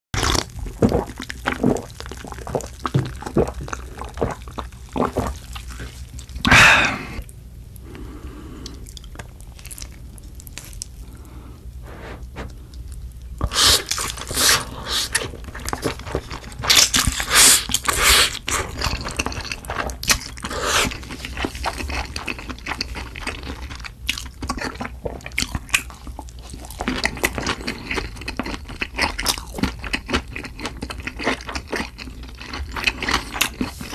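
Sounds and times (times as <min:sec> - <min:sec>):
wet chewing and crunching: 0:00.2 - 0:06.5, 0:08.6 - 0:11.2, 0:12.3 - 0:33.9.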